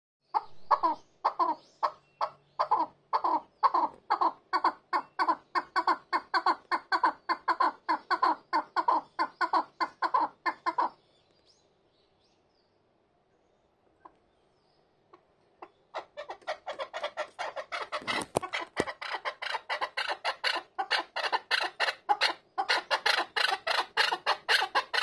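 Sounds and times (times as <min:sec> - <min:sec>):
partridge clucking calls: 0:00.3 - 0:11.0, 0:15.1 - 0:25.0.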